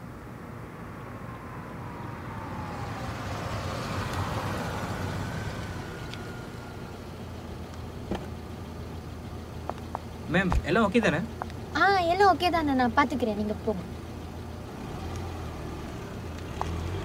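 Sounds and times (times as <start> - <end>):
car driving and pulling up: 0.0 - 17.0.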